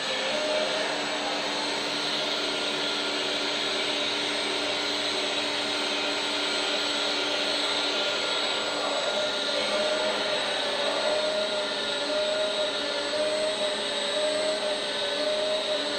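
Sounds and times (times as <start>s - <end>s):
hydraulic pump whirring whine: 0.0s - 15.9s.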